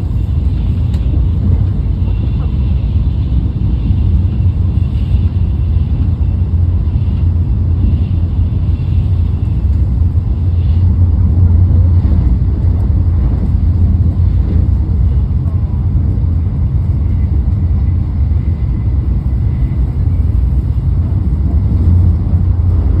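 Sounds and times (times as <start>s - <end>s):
train cabin rumble: 0.0s - 23.0s.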